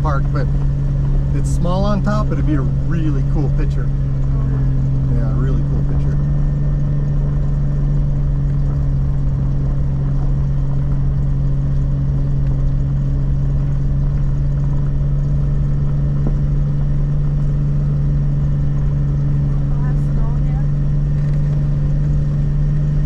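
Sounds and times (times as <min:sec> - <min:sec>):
car engine hum inside cab: 0:00.0 - 0:23.0.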